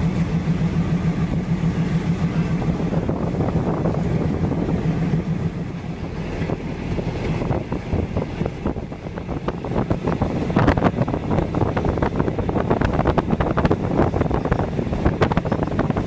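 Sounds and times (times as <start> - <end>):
vehicle engine droning: 0.0 - 16.0
wind on microphone: 0.0 - 16.0.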